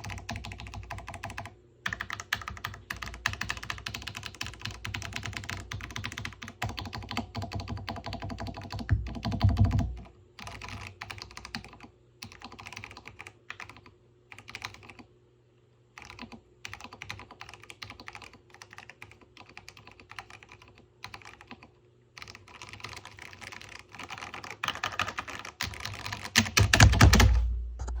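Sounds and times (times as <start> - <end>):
typing on mechanical keyboard: 0.0 - 15.1, 16.0 - 27.5.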